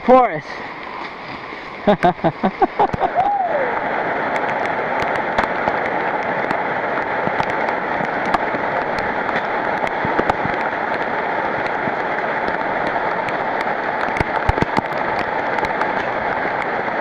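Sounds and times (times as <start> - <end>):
heavy rain on foliage: 0.0 - 17.0.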